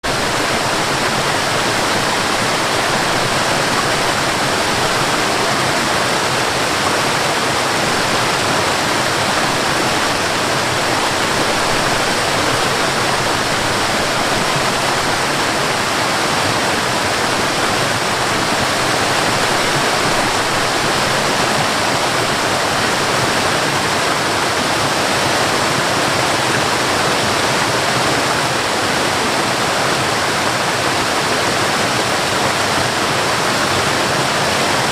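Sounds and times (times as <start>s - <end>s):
waterfall and river rushing: 0.0s - 34.9s.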